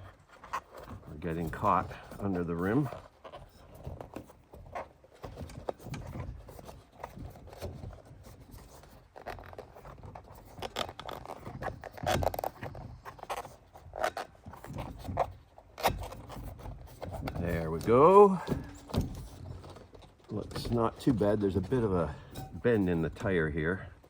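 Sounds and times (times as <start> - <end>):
tire rubbing and scraping on rim: 0.0 - 24.0.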